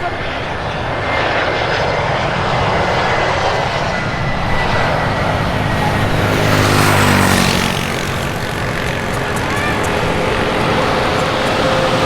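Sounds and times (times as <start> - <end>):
airliner engines passing: 0.0 - 12.0.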